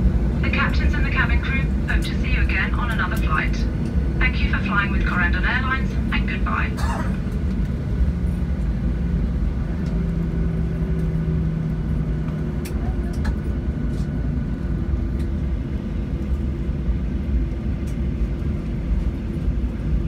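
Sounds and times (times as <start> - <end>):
airliner engines and wheels rumbling: 0.0 - 20.0
low hum: 0.0 - 20.0.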